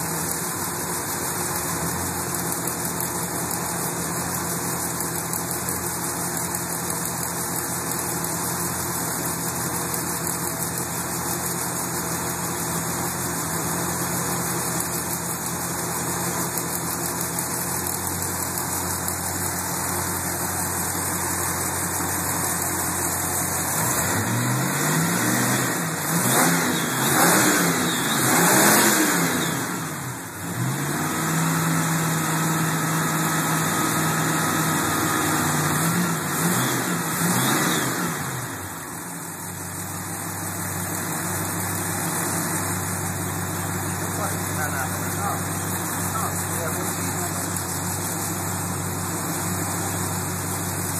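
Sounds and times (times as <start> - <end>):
car engine idling and revving: 0.0 - 50.9.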